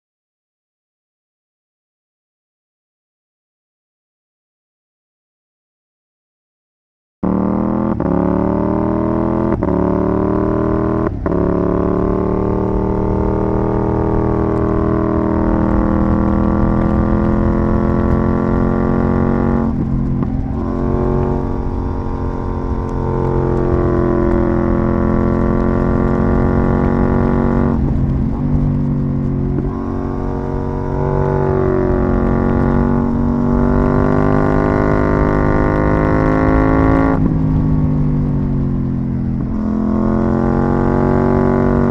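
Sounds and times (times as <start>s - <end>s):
motorcycle engine revving: 7.2s - 41.9s.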